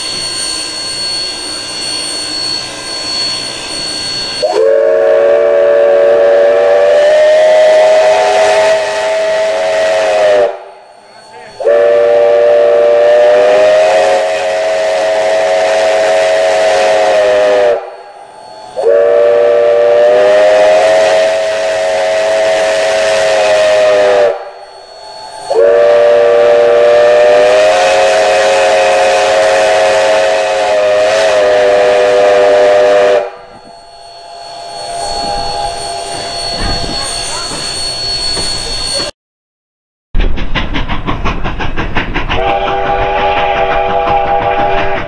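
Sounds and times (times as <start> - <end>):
steam locomotive whistle blasts: 0.0 - 39.1, 42.4 - 45.0.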